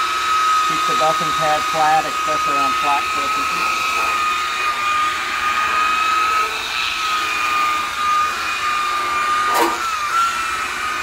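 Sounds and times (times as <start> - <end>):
electric buffer motor whine: 0.0 - 11.0.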